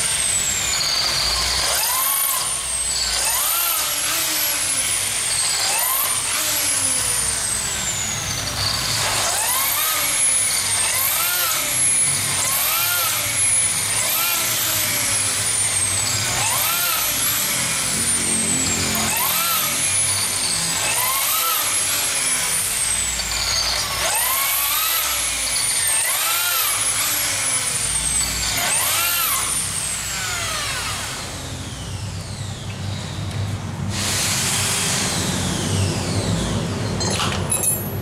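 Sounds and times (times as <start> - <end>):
electric drill boring into tile: 0.0 - 33.1, 33.9 - 37.8.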